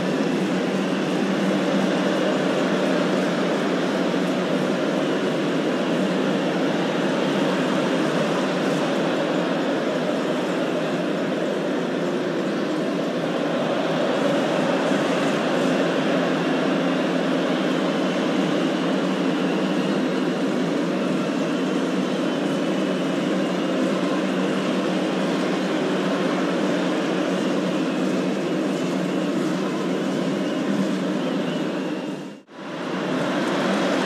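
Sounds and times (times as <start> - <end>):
stadium crowd din: 0.0 - 34.0.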